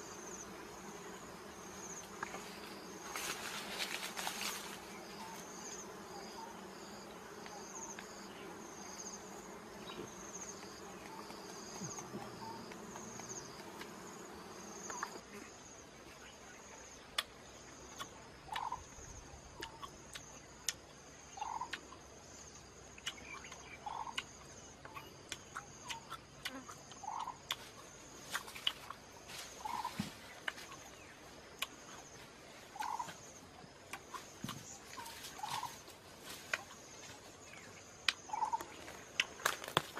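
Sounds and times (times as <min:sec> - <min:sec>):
honeybees buzzing: 0:00.0 - 0:16.9, 0:23.2 - 0:39.9
high pulsing insect chirp: 0:00.0 - 0:39.9.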